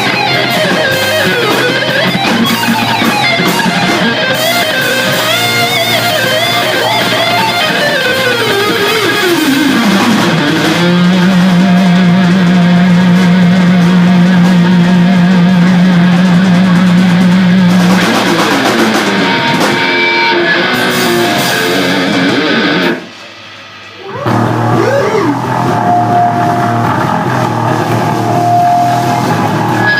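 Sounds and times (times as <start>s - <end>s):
live heavy rock band: 0.0s - 29.9s.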